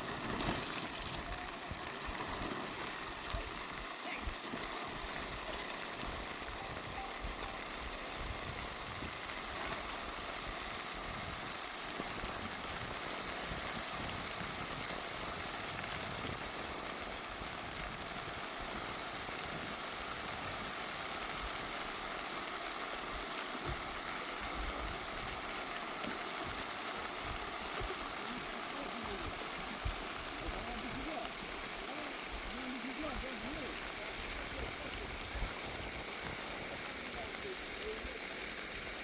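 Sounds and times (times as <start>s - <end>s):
rushing water hiss: 0.0s - 39.0s.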